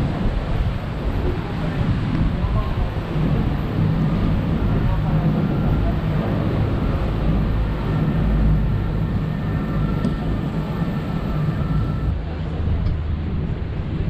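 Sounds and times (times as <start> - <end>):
boat engine droning: 0.0 - 14.0
rushing water: 0.0 - 14.0
wind noise: 0.0 - 14.0.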